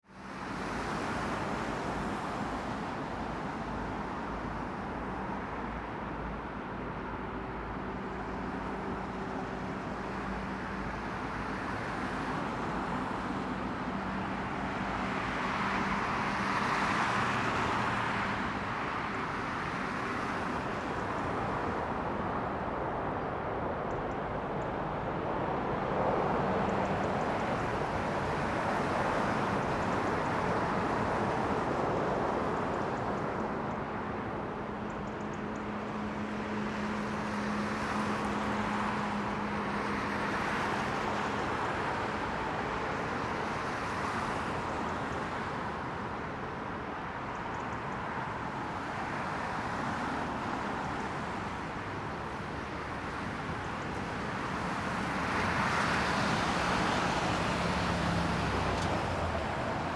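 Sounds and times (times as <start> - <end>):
jet engine noise: 0.2 - 59.9.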